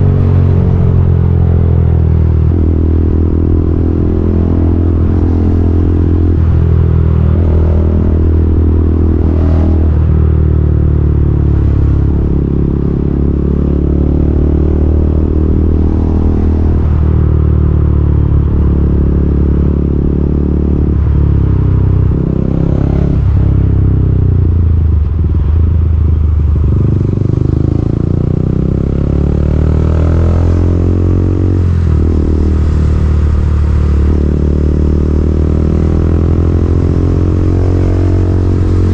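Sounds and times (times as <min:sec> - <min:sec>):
motorcycle engine revving: 0:00.0 - 0:24.6, 0:26.5 - 0:38.9.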